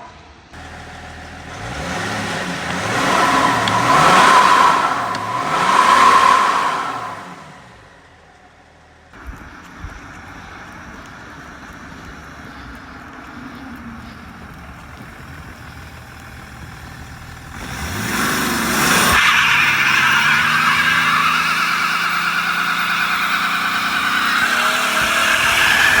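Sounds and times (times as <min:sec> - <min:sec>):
diesel engine revving: 0:00.6 - 0:26.0.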